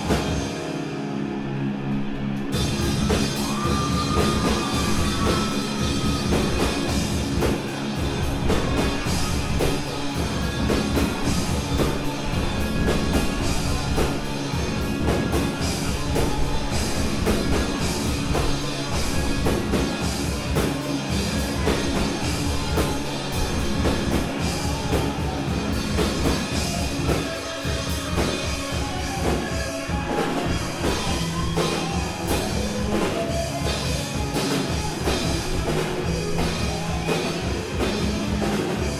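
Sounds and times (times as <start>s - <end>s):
drum kit beat: 0.0s - 0.8s, 2.5s - 38.9s
club room ambience: 0.0s - 38.9s
electric guitar: 0.0s - 38.9s.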